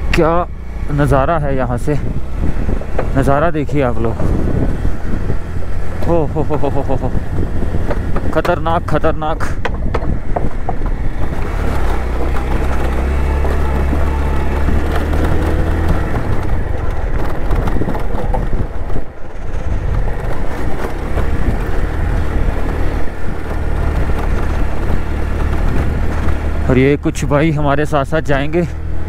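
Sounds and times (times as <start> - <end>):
deep wind: 0.0 - 29.0
motorcycle engine running: 0.0 - 29.0
road rumble: 0.0 - 29.0.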